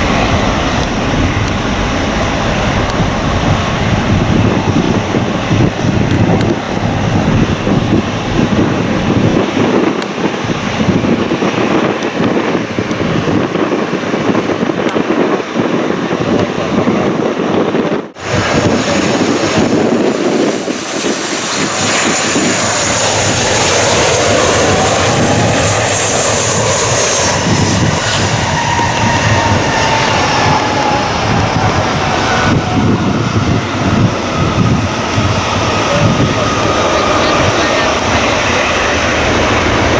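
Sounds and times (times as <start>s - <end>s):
high engine whine: 0.0s - 14.0s, 17.8s - 39.9s
jet engines running loud: 0.0s - 39.9s
wind on microphone: 0.0s - 39.9s.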